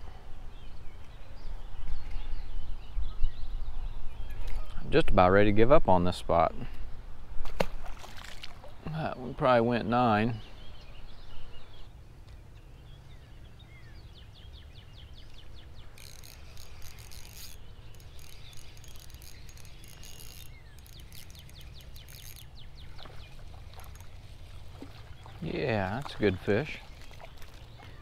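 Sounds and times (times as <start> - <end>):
birds chirping and singing: 0.5 - 5.3, 8.8 - 28.0.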